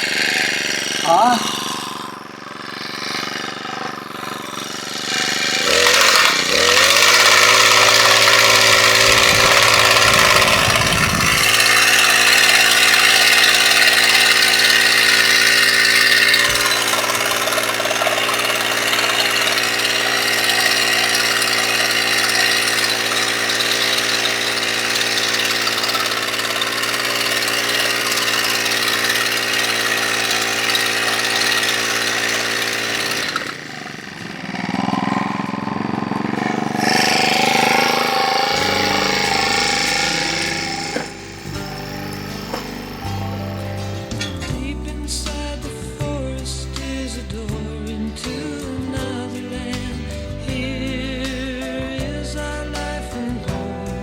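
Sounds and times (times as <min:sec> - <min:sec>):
engine starting and running: 0:00.0 - 0:53.6.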